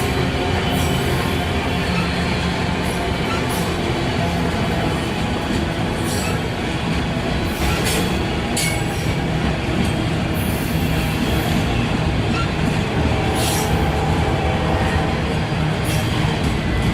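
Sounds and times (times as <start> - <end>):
freight train rumbling past: 0.0 - 16.9
wheels squealing on rails: 0.0 - 16.9.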